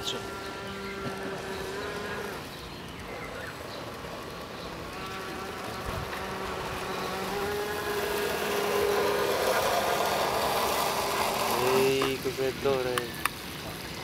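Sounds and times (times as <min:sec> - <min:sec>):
speedboat motor whining: 0:00.0 - 0:14.0.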